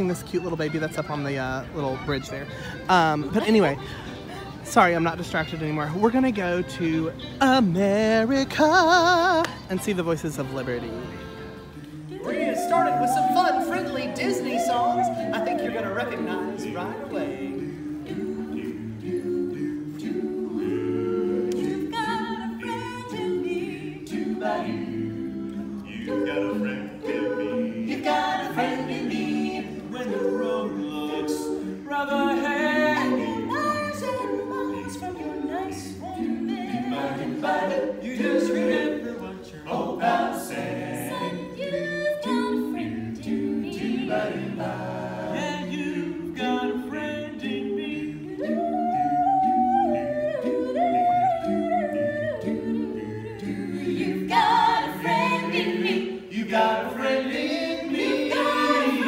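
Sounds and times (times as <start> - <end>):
vocal ensemble singing in harmony: 1.4 - 59.0.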